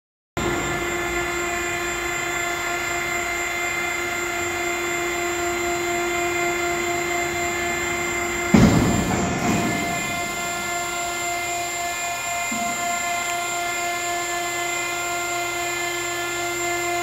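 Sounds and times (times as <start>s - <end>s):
hydraulic power unit humming: 0.4s - 17.0s.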